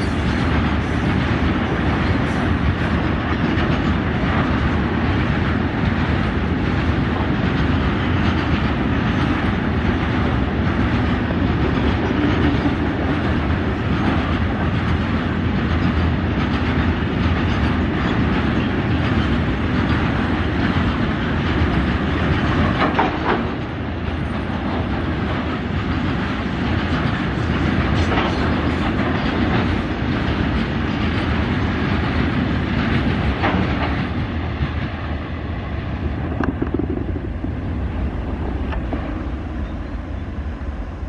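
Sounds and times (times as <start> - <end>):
wheels rumbling on rail: 0.0 - 41.0.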